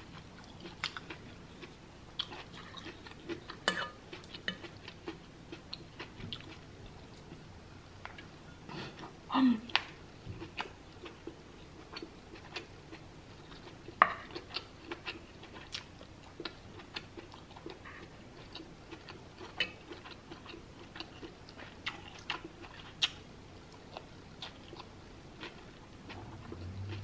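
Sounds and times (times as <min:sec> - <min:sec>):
person chewing: 0:00.1 - 0:07.4, 0:10.4 - 0:27.0.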